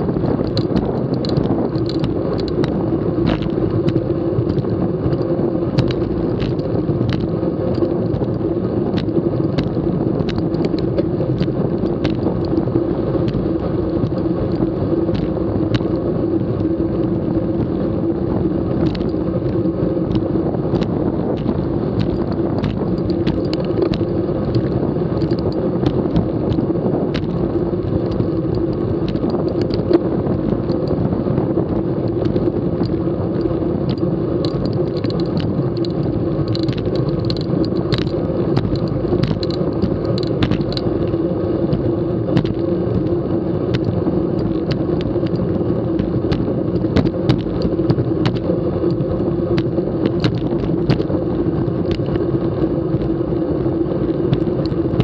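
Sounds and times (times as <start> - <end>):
bicycle rolling on concrete: 0.0 - 55.0
small clicks and rattles: 0.0 - 55.0.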